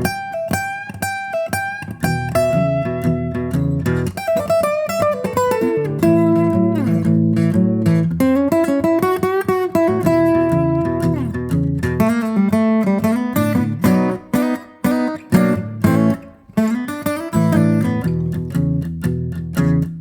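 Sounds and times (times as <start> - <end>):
guitar music with plucked notes: 0.0 - 20.0.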